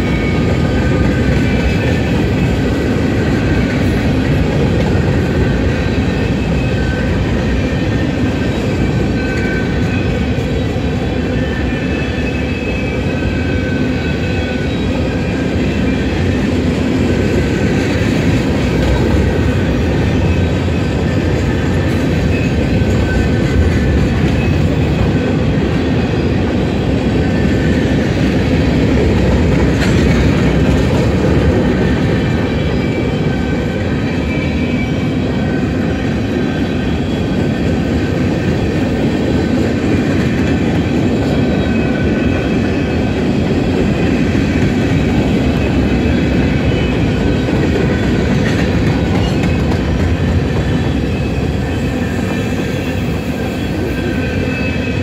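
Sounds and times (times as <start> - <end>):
freight train wheels rumbling: 0.0 - 55.0
high wheel squeals: 0.0 - 55.0.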